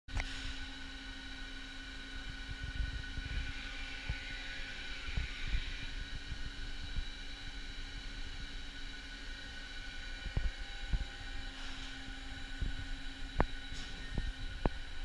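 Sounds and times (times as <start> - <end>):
lathe machine whine: 0.2 - 15.0.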